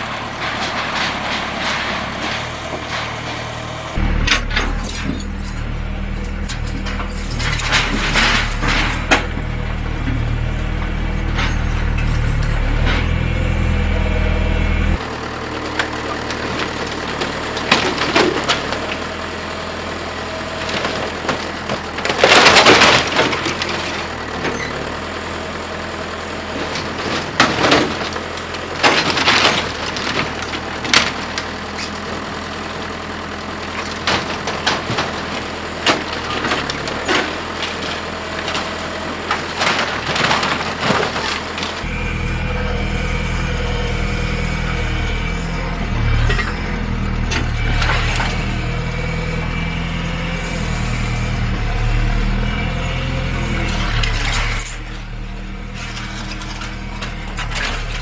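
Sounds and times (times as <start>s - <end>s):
wooden building crashing: 0.0s - 14.0s, 14.9s - 58.0s
backhoe engine droning: 0.0s - 58.0s.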